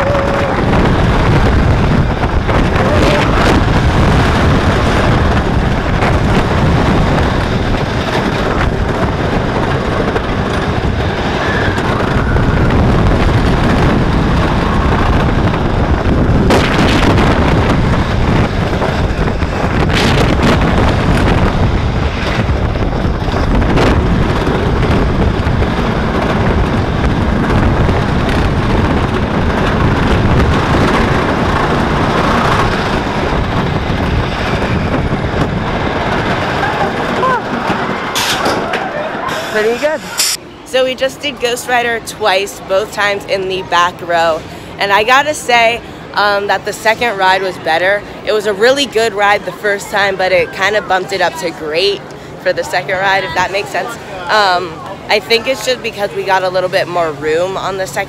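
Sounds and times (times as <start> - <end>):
roller coaster rumbling on wooden track: 0.0 - 40.0, 40.6 - 58.0
wind on microphone: 0.0 - 58.0.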